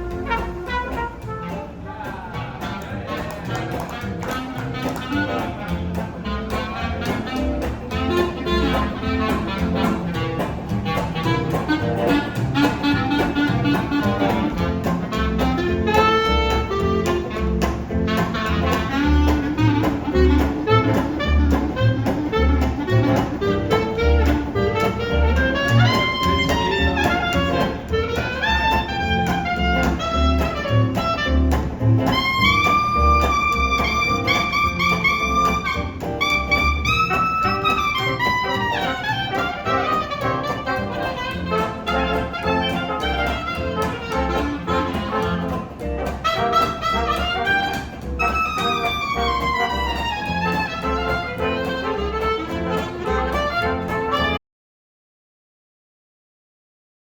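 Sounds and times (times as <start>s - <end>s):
plucked bass line: 0.0s - 54.3s
horn melody: 0.0s - 54.4s
jazz band playing: 0.0s - 54.4s.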